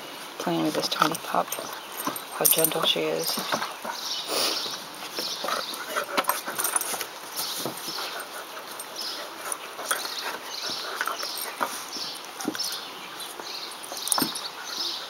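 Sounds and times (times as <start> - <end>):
dogs scuffling: 0.2 - 15.0.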